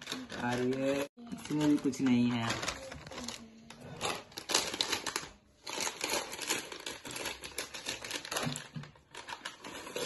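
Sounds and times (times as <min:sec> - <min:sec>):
foil packet crinkling: 0:00.0 - 0:10.0.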